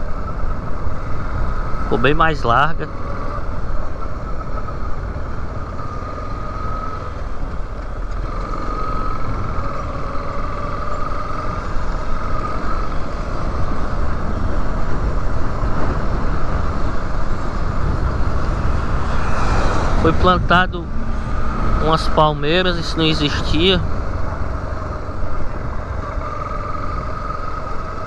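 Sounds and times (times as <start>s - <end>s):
motorcycle engine running: 0.0s - 28.0s
wind rumble on microphone: 0.0s - 28.0s.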